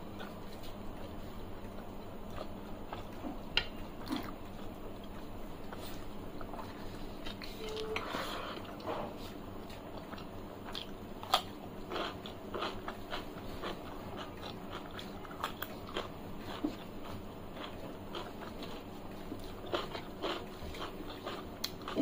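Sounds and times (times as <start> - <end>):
biting and chewing cucumber: 0.0 - 7.6, 9.6 - 22.0.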